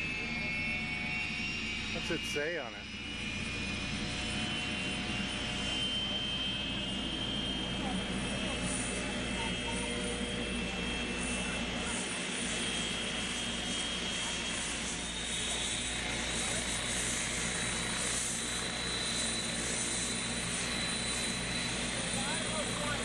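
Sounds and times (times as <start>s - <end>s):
aircraft turbine engines running: 0.0s - 23.0s.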